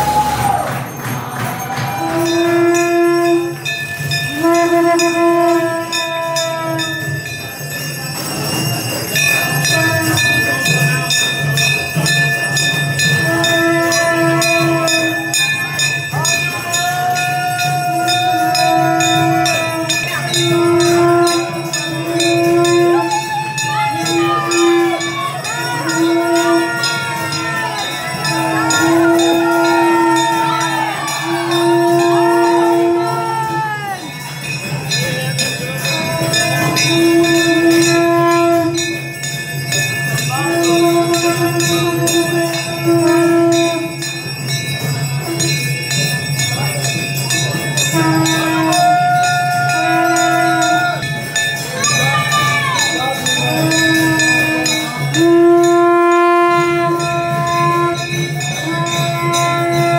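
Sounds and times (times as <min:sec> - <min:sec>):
small bells ringing: 0:00.0 - 0:59.9.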